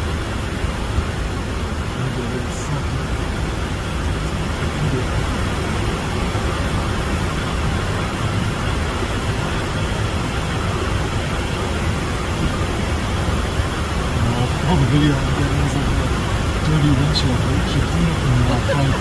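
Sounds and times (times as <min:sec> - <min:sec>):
airflow over cockpit: 0:00.0 - 0:19.0
distant jet engines humming: 0:00.0 - 0:19.0.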